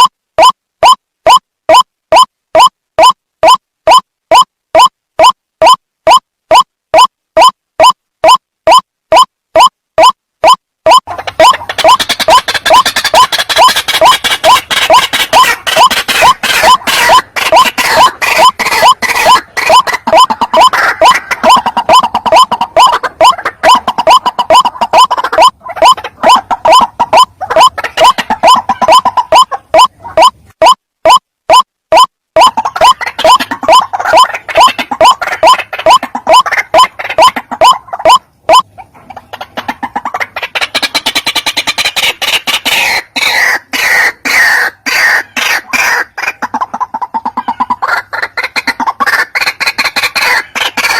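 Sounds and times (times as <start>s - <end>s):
waterhen croaking calls: 0.0s - 50.9s.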